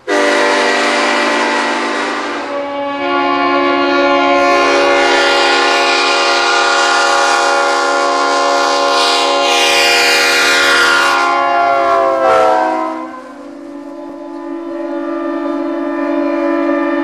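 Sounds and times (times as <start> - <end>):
locomotive air horns chord: 0.0 - 17.0.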